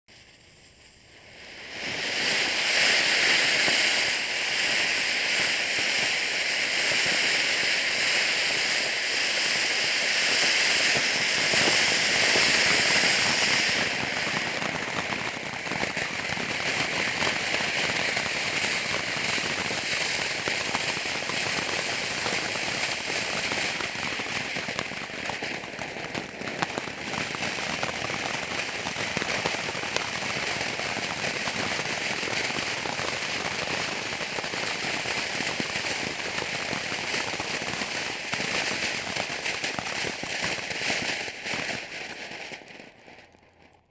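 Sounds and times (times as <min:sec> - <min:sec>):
fireworks fountain hissing: 0:00.1 - 0:43.7.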